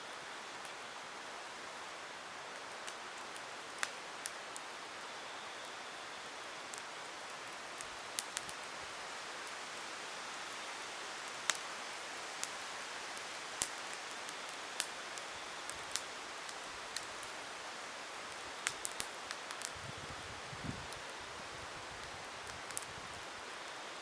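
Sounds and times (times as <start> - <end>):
campfire hissing: 0.0 - 24.0
wood crackling and popping: 0.4 - 24.0.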